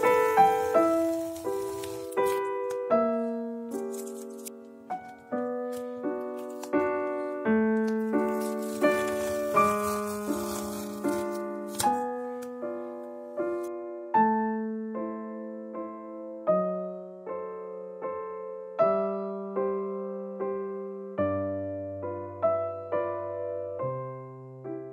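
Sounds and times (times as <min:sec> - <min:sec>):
slow solo piano music: 0:00.0 - 0:24.9.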